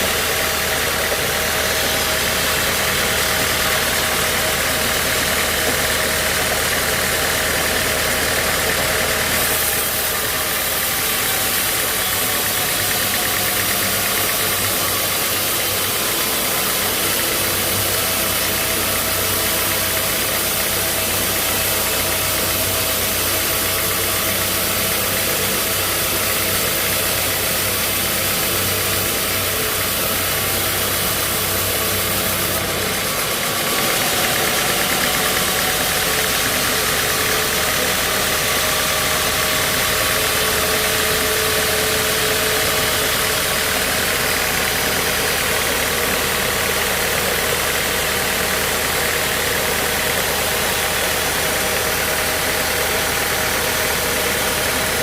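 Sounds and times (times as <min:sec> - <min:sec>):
sawmill saw rig running: 0:00.0 - 0:55.0.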